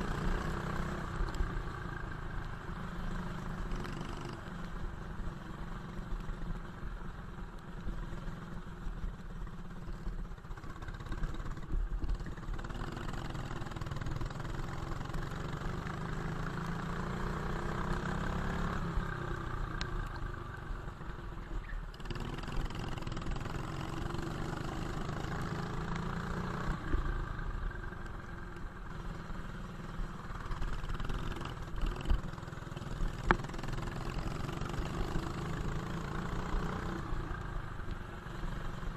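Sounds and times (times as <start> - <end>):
go-kart engine racing: 0.0 - 38.9
road noise: 0.0 - 38.9.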